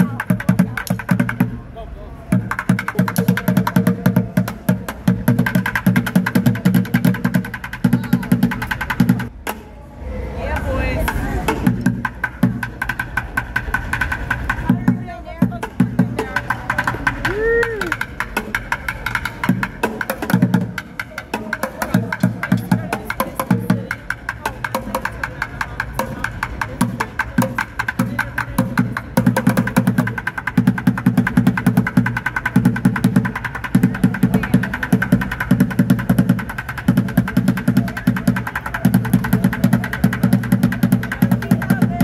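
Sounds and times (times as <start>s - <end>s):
bucket drumming with sticks: 0.0s - 1.6s, 2.3s - 9.3s, 11.0s - 42.0s.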